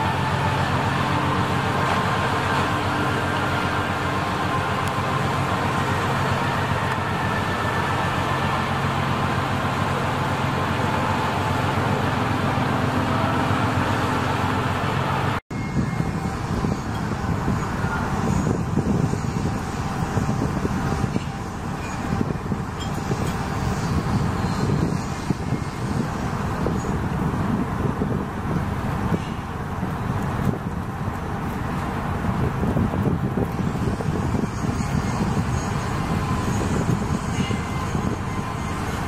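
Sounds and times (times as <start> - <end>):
ship engine hum: 0.0 - 39.0
wind and sea noise: 0.0 - 39.0.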